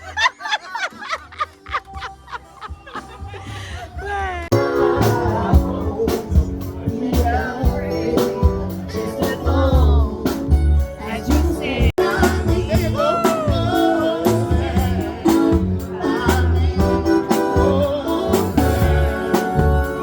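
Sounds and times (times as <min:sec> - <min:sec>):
song with singing voice: 0:00.0 - 0:20.0.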